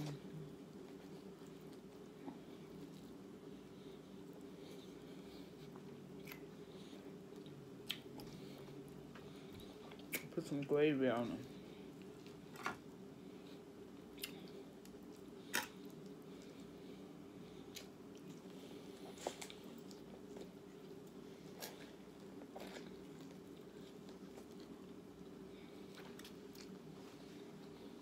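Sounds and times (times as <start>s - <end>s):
person chewing food: 0.0s - 10.3s, 11.5s - 28.0s
steady low hum: 0.0s - 28.0s.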